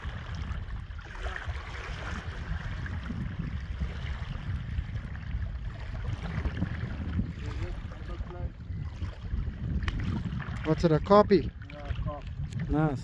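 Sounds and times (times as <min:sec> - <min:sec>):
water lapping: 0:00.0 - 0:13.0
wind buffeting microphone: 0:00.0 - 0:13.0.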